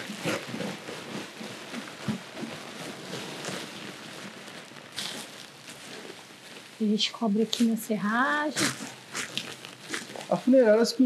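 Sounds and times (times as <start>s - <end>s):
plastic sack crinkling: 0.0s - 10.8s.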